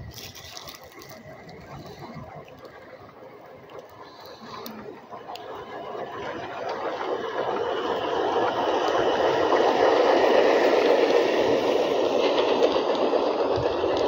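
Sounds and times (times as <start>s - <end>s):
model train wheels rumbling: 0.0s - 14.0s.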